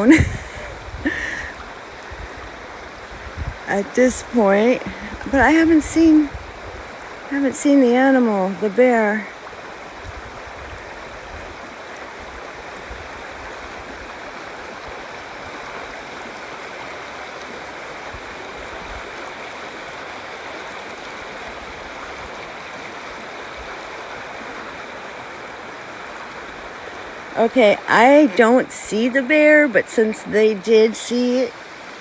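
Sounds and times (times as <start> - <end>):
river flowing: 0.0 - 32.0.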